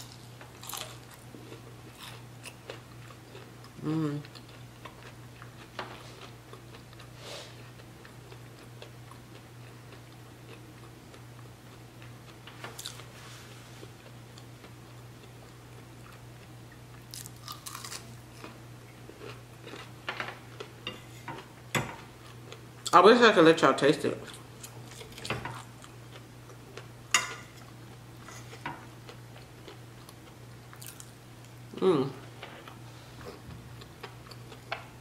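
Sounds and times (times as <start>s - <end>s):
person chewing crunchy food: 0.0s - 22.9s, 24.3s - 35.0s.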